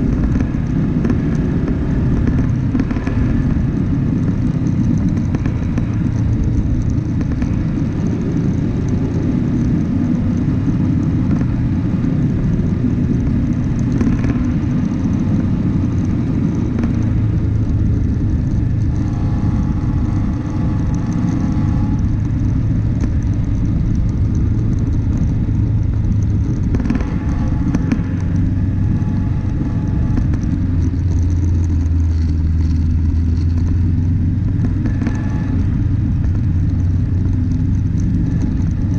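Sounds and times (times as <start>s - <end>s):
vehicle engine and tyres rumbling: 0.0s - 38.9s.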